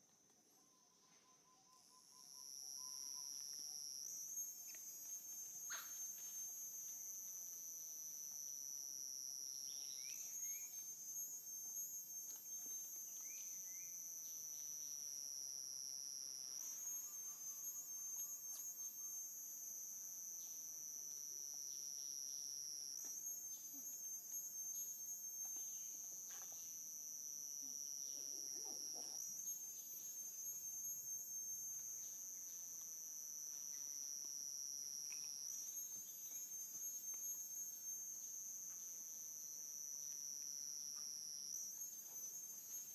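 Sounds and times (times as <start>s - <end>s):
cicadas buzzing: 1.6s - 42.9s.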